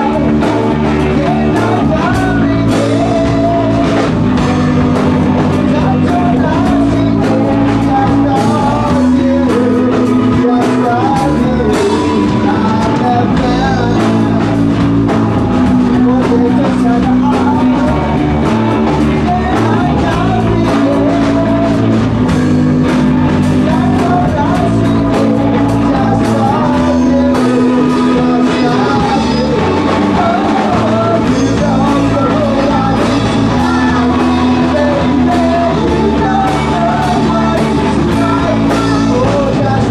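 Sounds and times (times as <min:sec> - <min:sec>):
live rock band playing: 0:00.0 - 0:39.9
man singing into microphone: 0:00.0 - 0:39.9.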